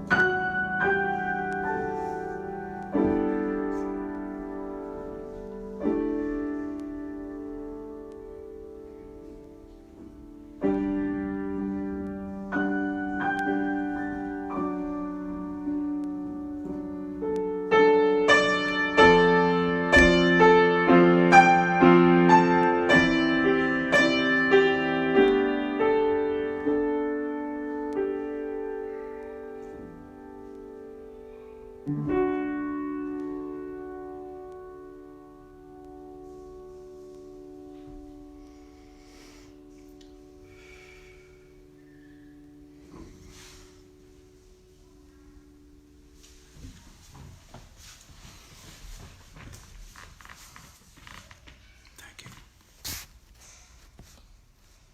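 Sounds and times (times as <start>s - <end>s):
solo piano: 0.0s - 49.9s.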